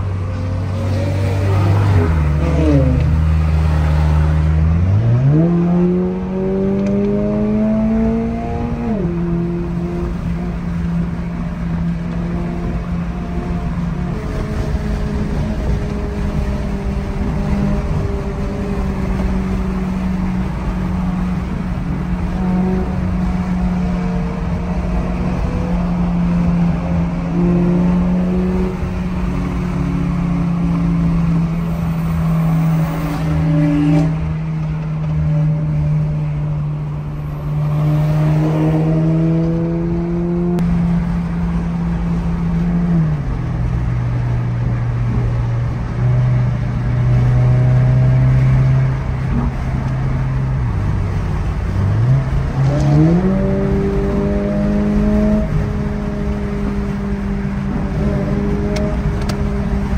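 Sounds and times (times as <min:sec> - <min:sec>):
car engine drone: 0:00.0 - 0:59.9
road noise inside car: 0:00.0 - 0:59.9.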